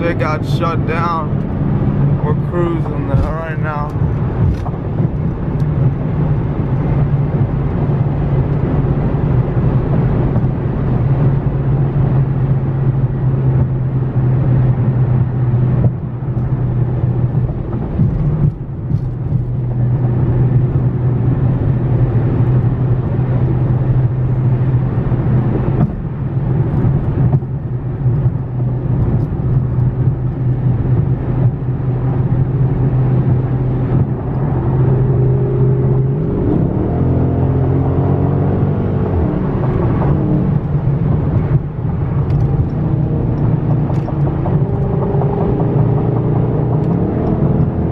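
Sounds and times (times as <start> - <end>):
car engine droning: 0.0 - 47.9
road and tyre noise: 0.0 - 47.9.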